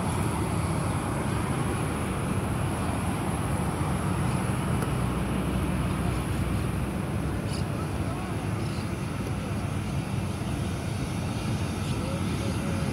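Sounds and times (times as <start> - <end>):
road traffic rumble: 0.0 - 12.9.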